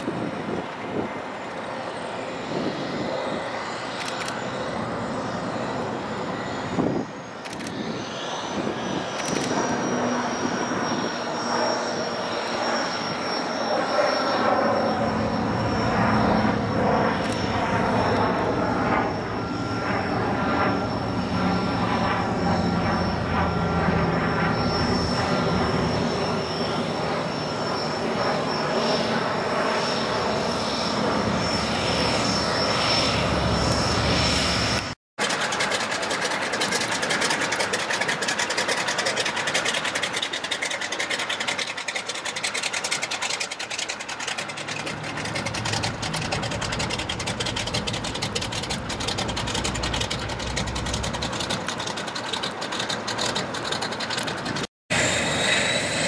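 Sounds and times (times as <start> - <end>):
floatplane engine and propeller: 0.0 - 56.0.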